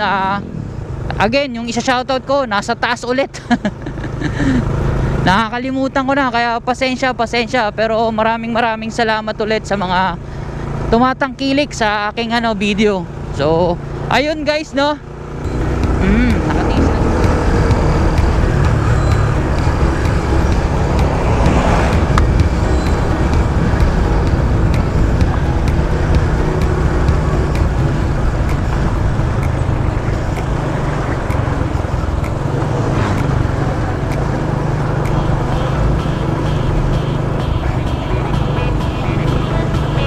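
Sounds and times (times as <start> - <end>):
motorcycle engine running: 0.0 - 40.0
road and traffic noise: 0.0 - 40.0.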